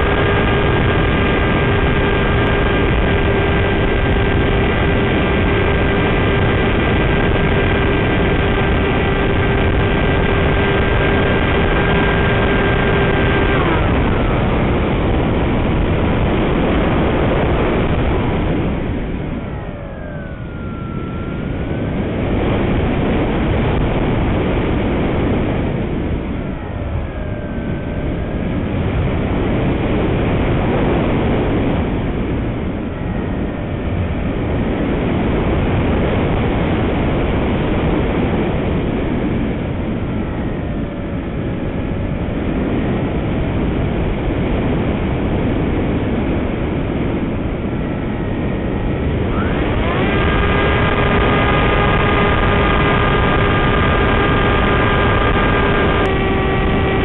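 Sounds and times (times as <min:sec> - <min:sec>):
electric motor and propeller whining: 0:00.0 - 0:57.0
wind rushing over camera: 0:00.0 - 0:57.0.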